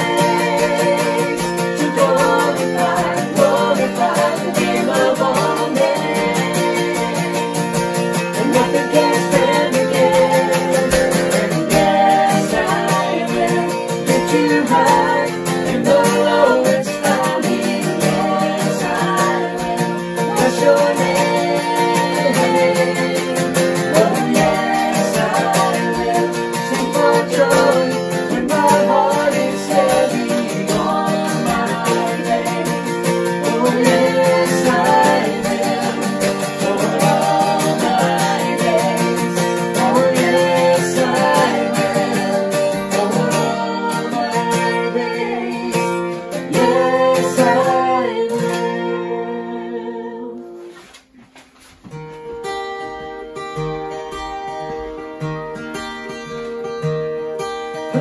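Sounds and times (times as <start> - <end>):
group singing worship song: 0.0 - 51.1
strummed acoustic guitar: 0.0 - 58.0.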